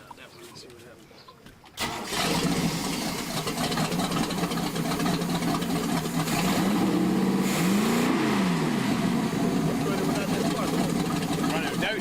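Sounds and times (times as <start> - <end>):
boat engine idling and revving: 1.8 - 12.0.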